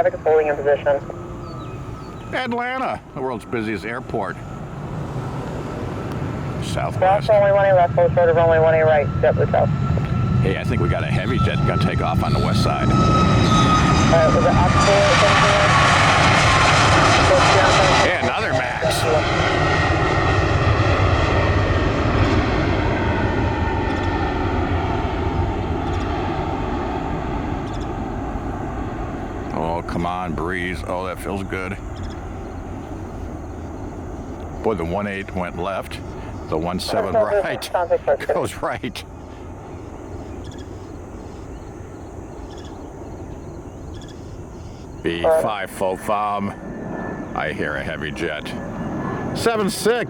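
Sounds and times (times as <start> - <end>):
jet engines passing: 0.0 - 50.0.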